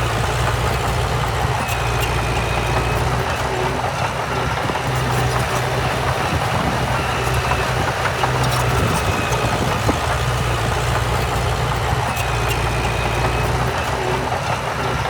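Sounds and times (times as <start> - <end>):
heavy diesel machinery humming: 0.0 - 15.0.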